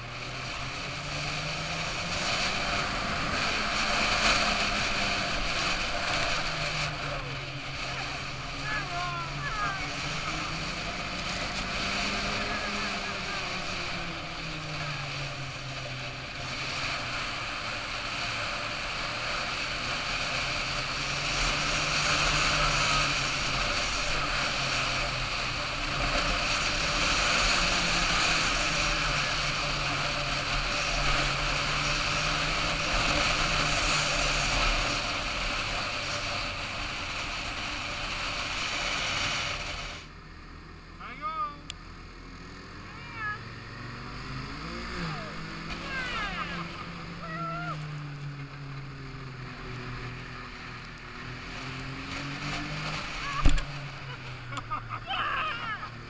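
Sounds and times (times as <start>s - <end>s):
snowmobile engine running: 0.0s - 56.0s
wind and track noise: 0.0s - 56.0s.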